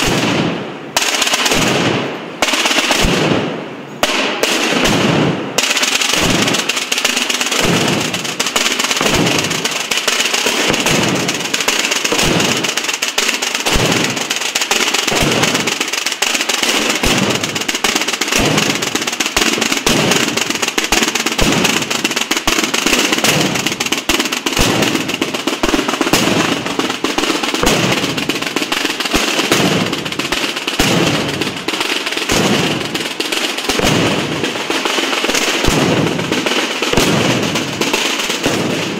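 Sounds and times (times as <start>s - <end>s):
snare drums rattling: 5.6s - 38.9s.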